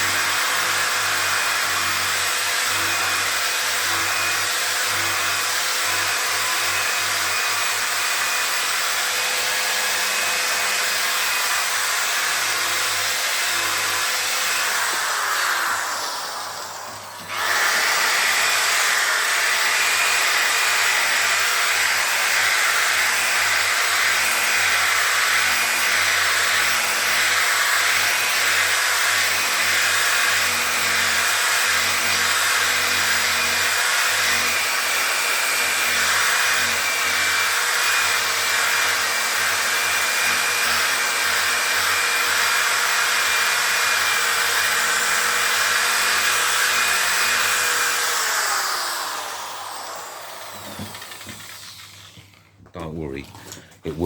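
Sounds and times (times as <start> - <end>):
electric sander running: 0.0 - 52.4.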